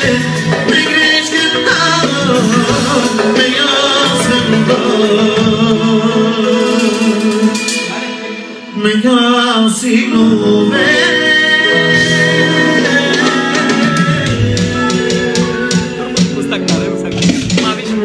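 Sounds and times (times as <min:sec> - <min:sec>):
band music with male singer: 0:00.0 - 0:18.0.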